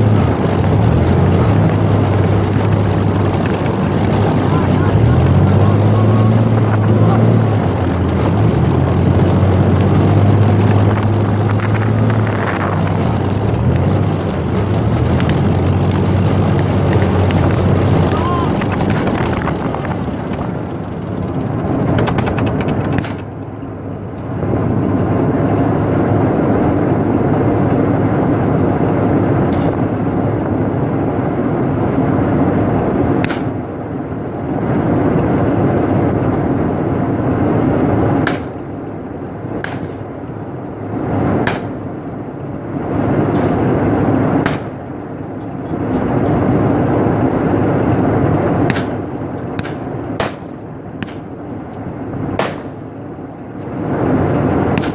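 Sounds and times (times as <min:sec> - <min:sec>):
tank engine rumbling: 0:00.0 - 0:54.9.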